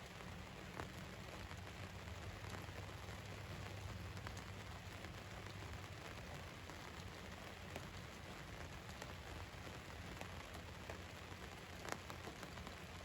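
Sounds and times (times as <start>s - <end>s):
rain pattering on a van roof: 0.0s - 13.0s.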